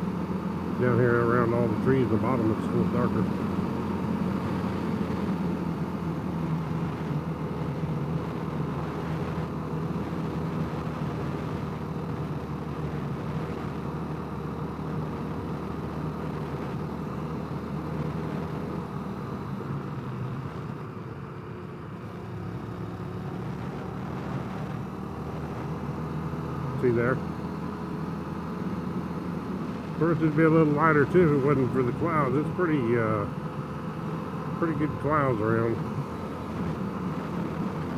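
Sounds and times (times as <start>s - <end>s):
motorcycle engine running: 0.0s - 37.9s
road and wind noise: 0.0s - 37.9s.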